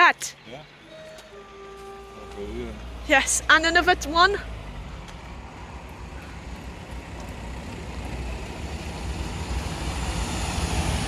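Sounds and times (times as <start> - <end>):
diesel locomotive engine rumble: 0.0 - 11.0
train track noise: 0.0 - 11.0.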